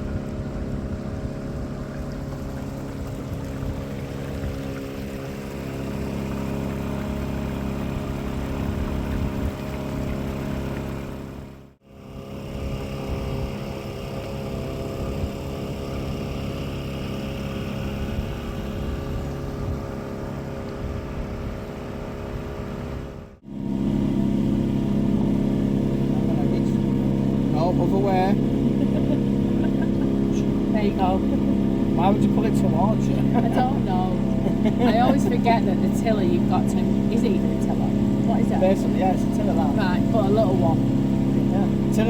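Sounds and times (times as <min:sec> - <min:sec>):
boat engine humming: 0:00.0 - 0:42.0.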